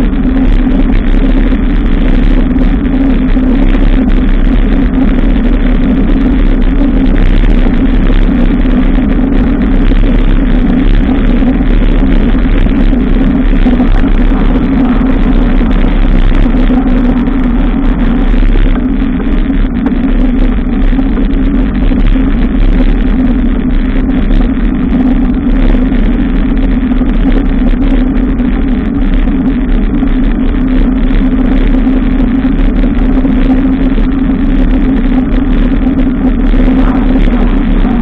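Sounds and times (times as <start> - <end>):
wind and road noise rumble: 0.0 - 38.0.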